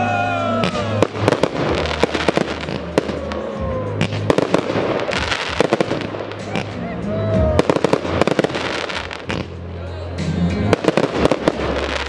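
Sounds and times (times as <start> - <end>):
music playing: 0.0 - 12.0
fireworks bursting and crackling: 0.6 - 9.7, 10.5 - 12.0.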